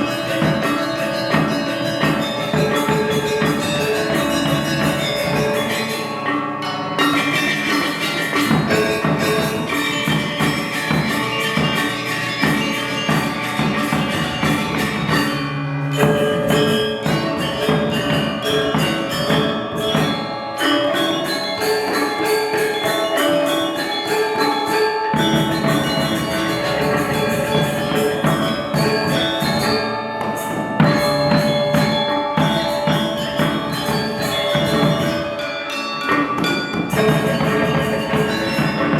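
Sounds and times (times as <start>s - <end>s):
drums: 0.0s - 38.9s
gamelan metallophones and gongs: 0.0s - 38.9s.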